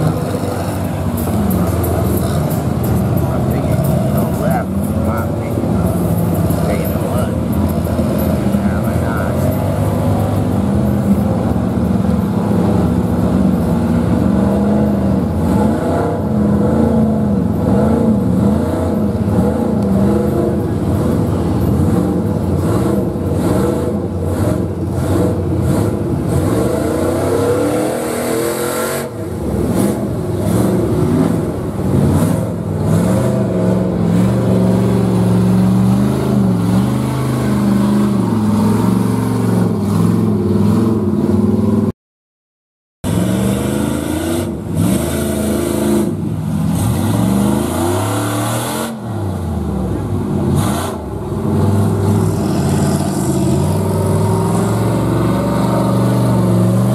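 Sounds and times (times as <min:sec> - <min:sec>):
truck engines revving: 0:00.0 - 0:41.9, 0:43.0 - 0:56.9.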